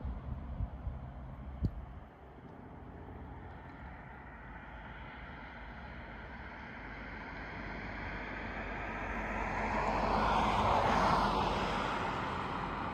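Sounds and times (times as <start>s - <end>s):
propeller aircraft flying overhead: 0.0s - 12.9s.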